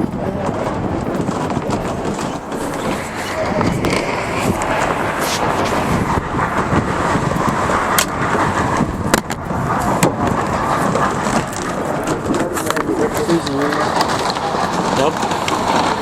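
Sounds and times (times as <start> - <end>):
sharp track clicks: 0.0 - 16.0
train rumbling on track: 0.0 - 16.0.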